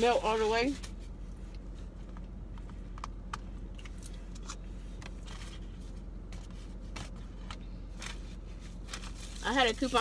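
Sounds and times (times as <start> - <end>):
low hum in car cabin: 0.0 - 10.0.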